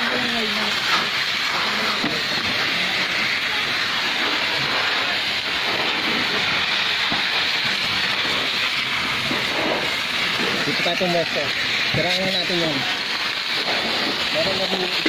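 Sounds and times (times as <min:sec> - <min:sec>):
water jetting from fire hose: 0:00.0 - 0:15.0.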